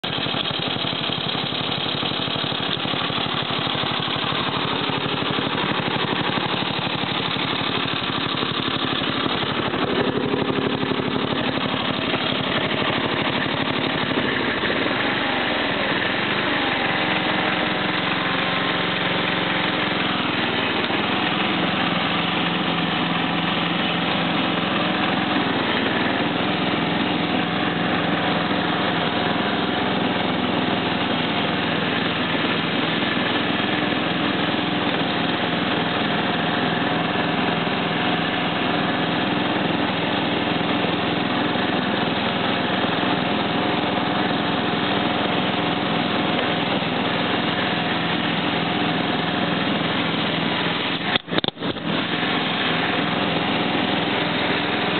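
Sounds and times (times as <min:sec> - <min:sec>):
lawn tractor engine running: 0:00.0 - 0:54.9.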